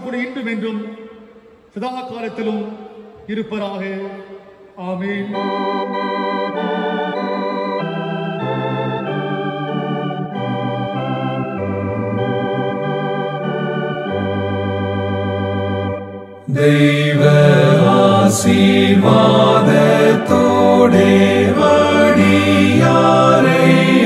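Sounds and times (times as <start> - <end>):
organ playing hymn chords: 4.7 - 24.0.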